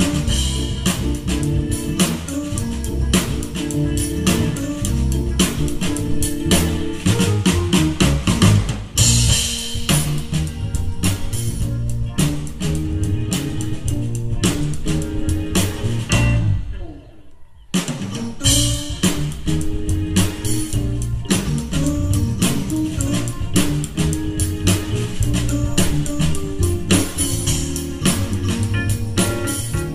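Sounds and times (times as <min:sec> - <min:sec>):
instrumental band playing: 0:00.0 - 0:29.9.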